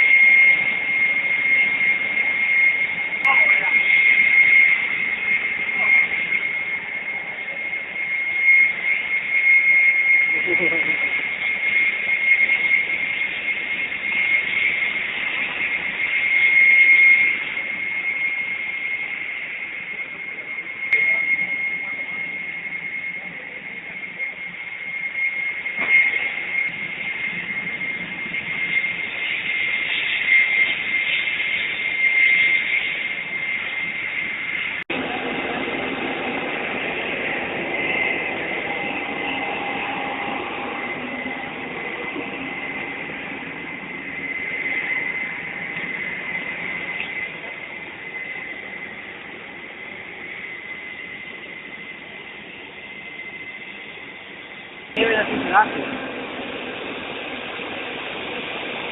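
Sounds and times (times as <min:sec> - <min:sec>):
jet engine whine: 0:00.0 - 0:58.9.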